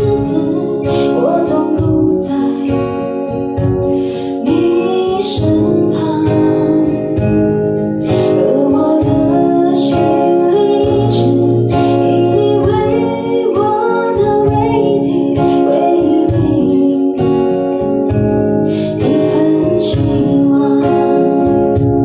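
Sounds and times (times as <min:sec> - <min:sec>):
guitar accompaniment: 0:00.0 - 0:22.0
person singing: 0:00.0 - 0:22.0.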